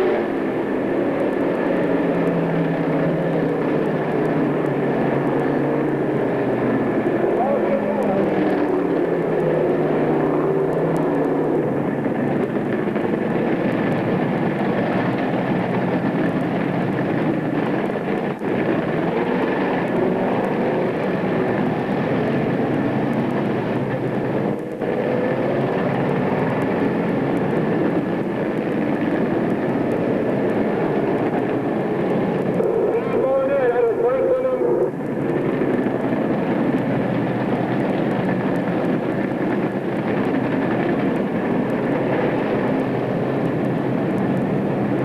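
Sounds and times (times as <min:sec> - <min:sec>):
race car engines droning: 0:00.0 - 0:45.0.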